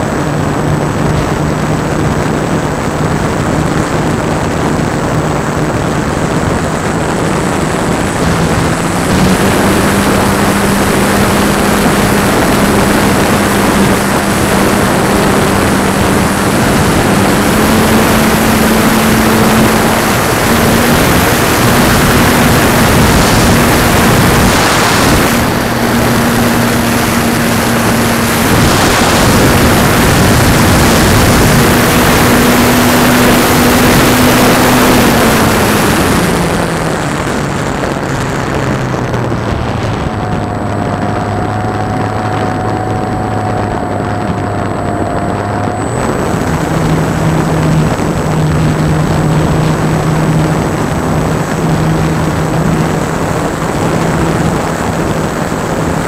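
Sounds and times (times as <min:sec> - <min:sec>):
electric motor and propeller hum: 0:00.0 - 0:56.0
rushing wind noise: 0:00.0 - 0:56.0.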